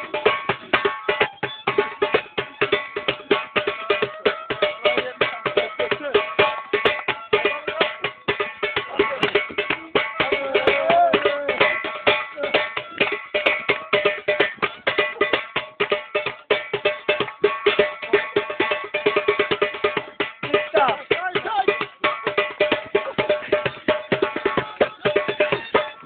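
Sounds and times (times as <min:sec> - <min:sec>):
sharp drum strikes: 0:00.0 - 0:26.0.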